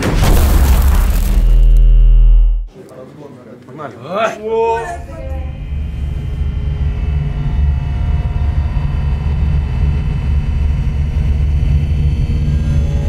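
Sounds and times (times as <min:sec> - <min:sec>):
low rumbling drone: 0:00.0 - 0:02.7, 0:05.0 - 0:13.0.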